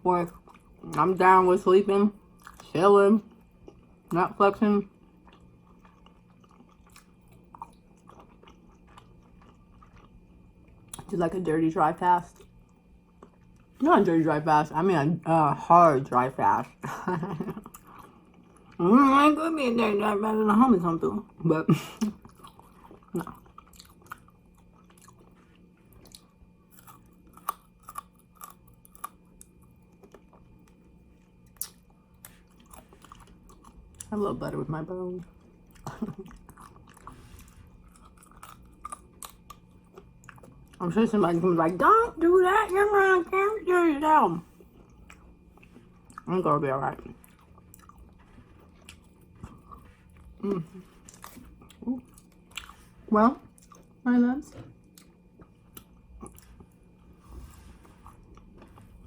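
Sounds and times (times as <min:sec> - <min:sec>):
chewing fried chicken: 0:02.2 - 0:11.1, 0:12.2 - 0:13.8, 0:16.7 - 0:19.2, 0:20.1 - 0:34.6, 0:35.2 - 0:41.5, 0:44.5 - 0:54.0, 0:54.7 - 0:59.0.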